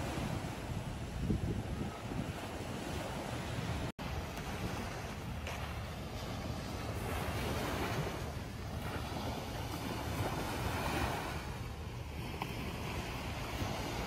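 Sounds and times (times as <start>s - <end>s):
small waves washing up beach: 0.0s - 14.0s
wind buffeting microphone: 0.0s - 14.0s.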